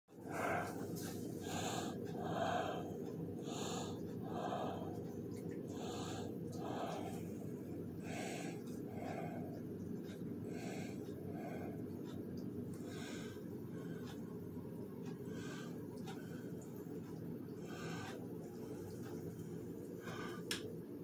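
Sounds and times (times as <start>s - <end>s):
noisy breathing: 0.1s - 21.0s
steady low hum: 0.1s - 21.0s.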